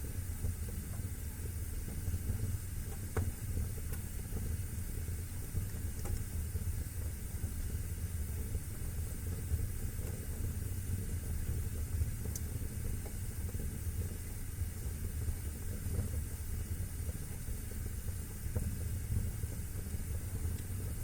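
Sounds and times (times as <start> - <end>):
faint fire crackles: 0.0 - 21.0
wood fire rumble and hiss: 0.0 - 21.0.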